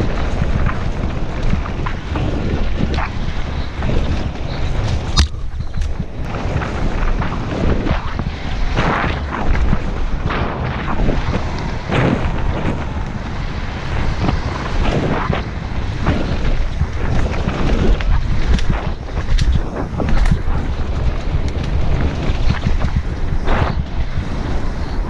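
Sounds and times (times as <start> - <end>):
bike clattering over bumps: 0.0 - 25.0
tyres rumbling on gravel: 0.0 - 25.0
wind buffeting camera: 0.0 - 25.0.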